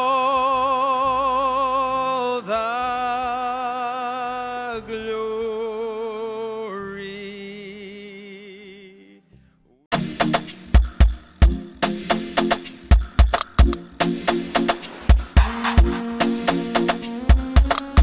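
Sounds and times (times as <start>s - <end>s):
slow music with held notes: 0.0s - 18.0s.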